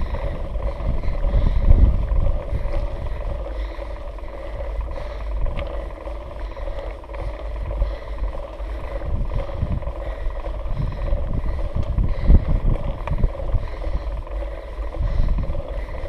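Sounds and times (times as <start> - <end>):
bike clicks and rattles: 0.0 - 16.0
gusty wind rumble on microphone: 0.0 - 16.0.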